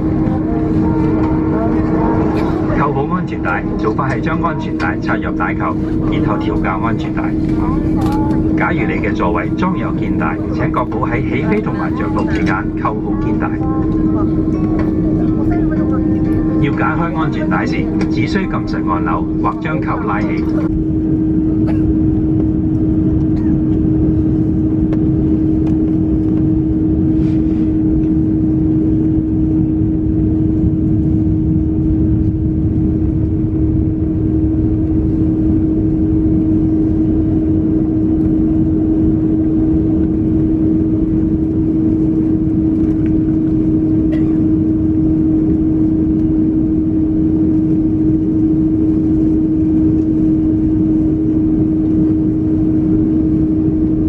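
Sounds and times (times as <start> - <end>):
constant hum: 0.0 - 54.0
low engine rumble: 0.0 - 54.0.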